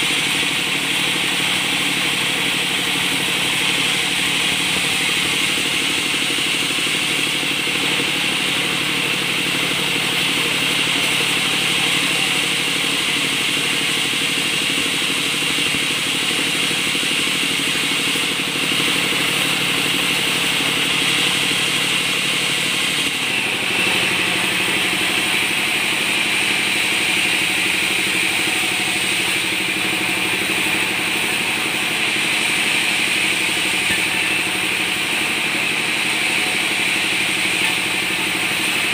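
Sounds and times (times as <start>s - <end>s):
band saws humming and whining: 0.0s - 38.9s.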